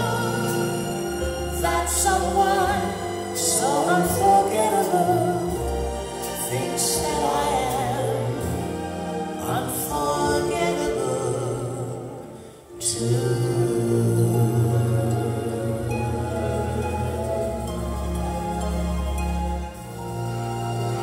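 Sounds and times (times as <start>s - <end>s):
sung vocals with vibrato: 0.0s - 18.2s.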